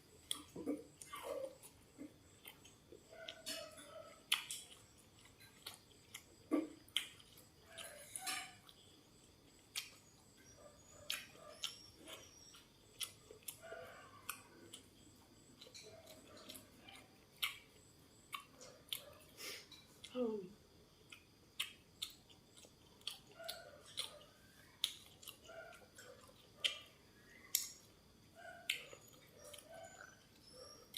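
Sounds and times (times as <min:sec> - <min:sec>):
person crunching and chewing: 0:00.1 - 0:10.2, 0:11.1 - 0:20.1, 0:21.0 - 0:26.9.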